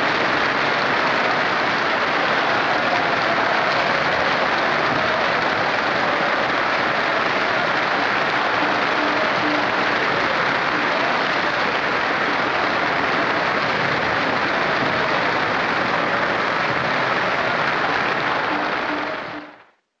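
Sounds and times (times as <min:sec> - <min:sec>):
audience applauding: 0:00.0 - 0:19.7.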